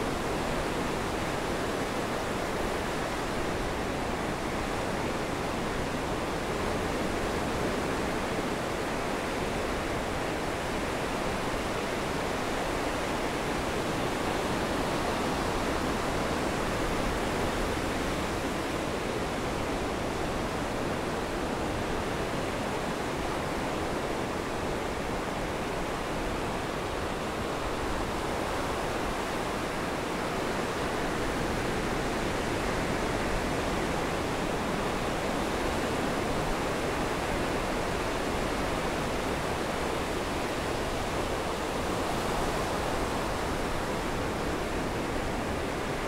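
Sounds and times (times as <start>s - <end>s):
storm surf breaking around pilings: 0.0s - 46.0s.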